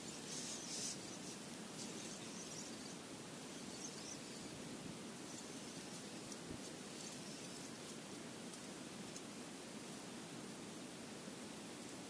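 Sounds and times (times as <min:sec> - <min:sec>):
faint rustles: 0:00.0 - 0:10.6
wind: 0:00.0 - 0:12.0.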